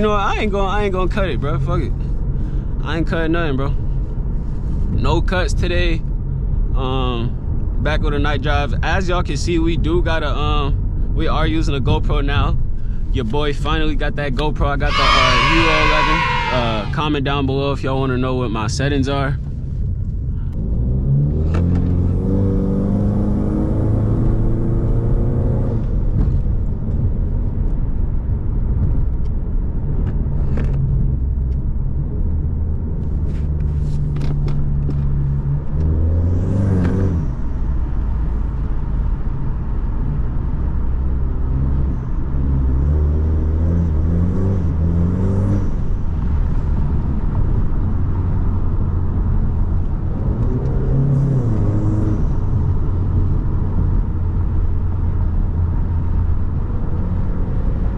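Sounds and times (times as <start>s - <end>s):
car engine and exhaust rumble: 0.0s - 57.9s.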